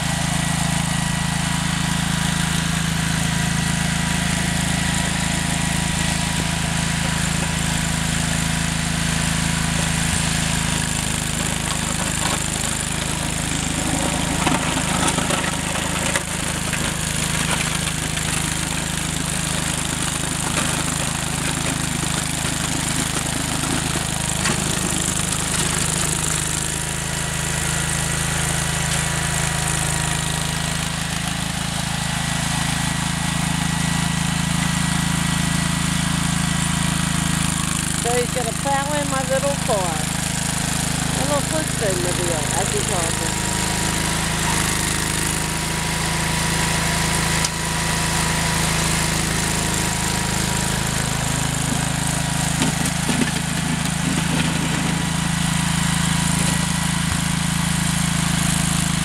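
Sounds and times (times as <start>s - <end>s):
garden tractor engine running: 0.0s - 59.0s.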